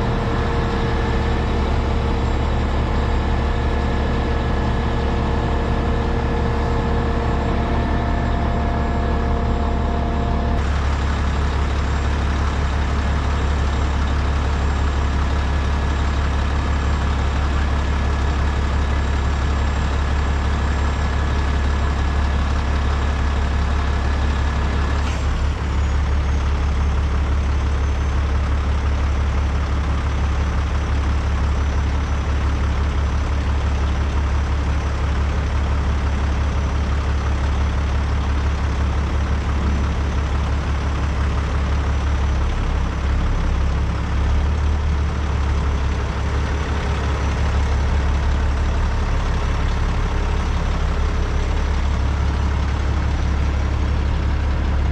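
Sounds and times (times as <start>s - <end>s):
diesel engine low drone: 0.0s - 54.9s.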